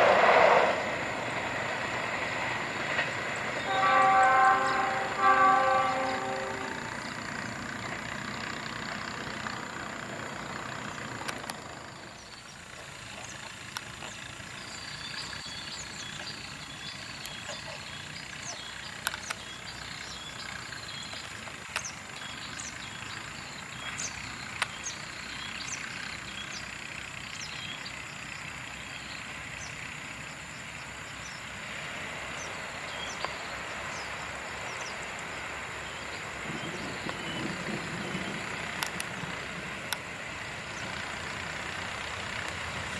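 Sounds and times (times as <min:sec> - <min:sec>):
approaching diesel locomotive: 0:00.0 - 0:42.9
departing train rumble: 0:00.0 - 0:42.9.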